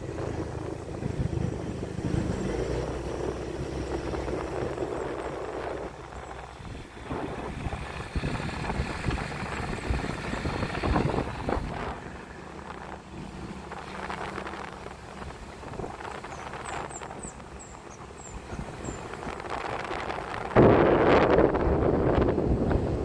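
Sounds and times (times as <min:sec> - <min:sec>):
vehicle road noise: 0:00.0 - 0:23.0
wind buffeting microphone: 0:00.0 - 0:23.0.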